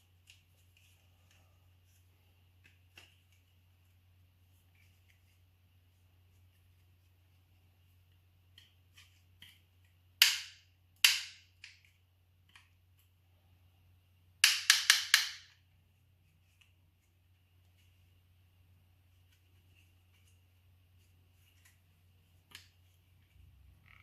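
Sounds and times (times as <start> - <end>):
low steady hum: 0.0 - 14.4, 15.4 - 24.0.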